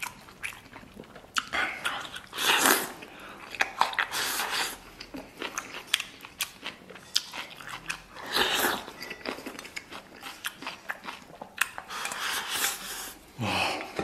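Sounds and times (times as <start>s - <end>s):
chewing and smacking: 0.0s - 12.9s.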